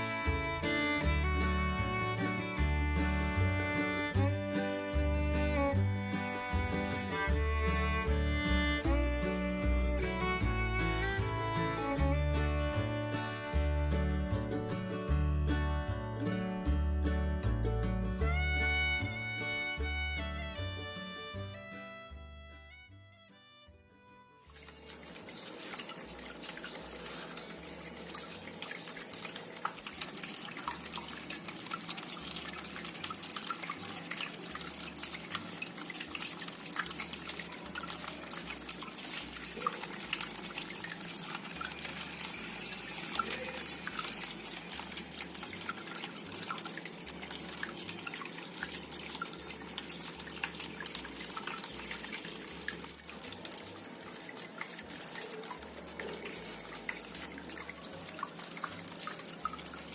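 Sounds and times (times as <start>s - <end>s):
fountain water trickling: 0.0s - 21.6s, 24.4s - 59.9s
water dripping: 0.0s - 21.6s, 24.4s - 59.9s.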